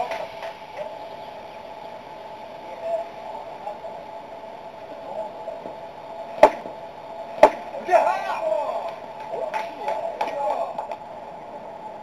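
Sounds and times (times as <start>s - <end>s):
outdoor ballfield background: 0.0s - 12.0s.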